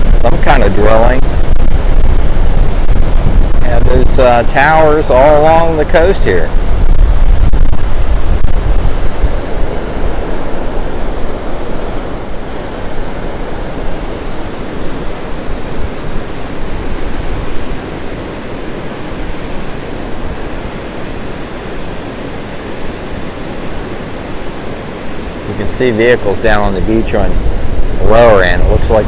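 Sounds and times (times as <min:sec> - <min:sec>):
ocean surf breaking: 0:00.0 - 0:29.0
wind rumbling on microphone: 0:00.0 - 0:29.0.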